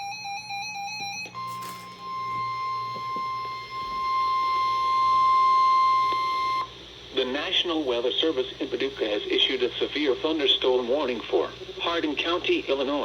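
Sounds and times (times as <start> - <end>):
steady high alarm tone: 0.0 - 12.8.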